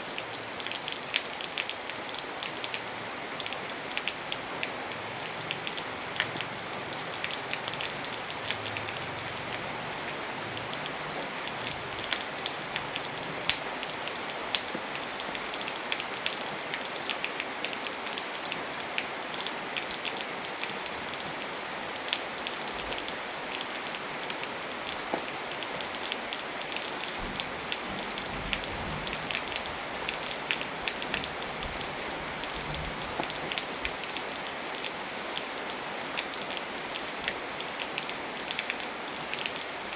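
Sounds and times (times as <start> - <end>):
steady rain hiss: 0.0 - 39.9
raindrops ticking: 3.4 - 39.9.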